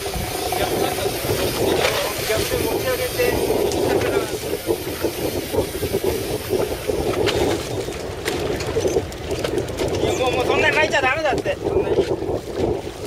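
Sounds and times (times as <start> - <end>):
boat engine running: 0.0 - 13.0
sea water washing along hull: 0.0 - 13.0.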